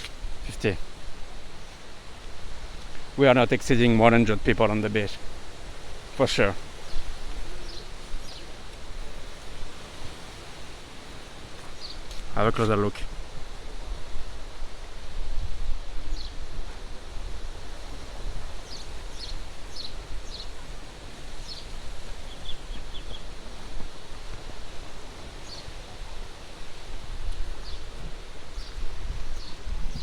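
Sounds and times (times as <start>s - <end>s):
steady outdoor hiss: 0.0s - 30.0s
wind buffeting microphone: 0.0s - 30.0s.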